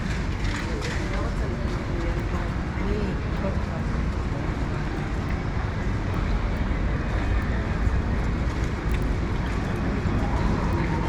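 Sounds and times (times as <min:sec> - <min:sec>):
traffic rumble and hiss: 0:00.0 - 0:11.0.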